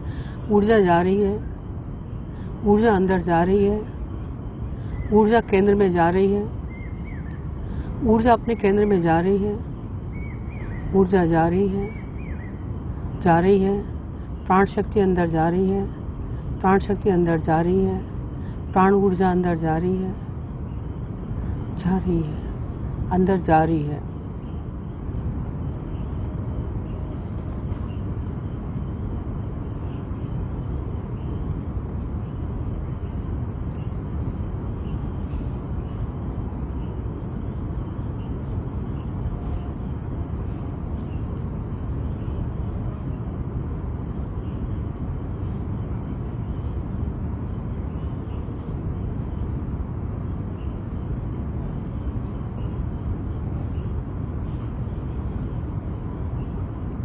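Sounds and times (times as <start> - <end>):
insects chirring: 0.0 - 57.0
low rumbling background noise: 0.0 - 57.0.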